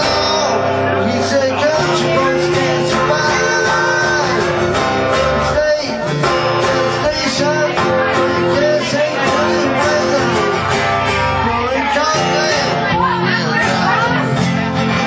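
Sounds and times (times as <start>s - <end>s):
acoustic guitars strumming: 0.0s - 15.0s.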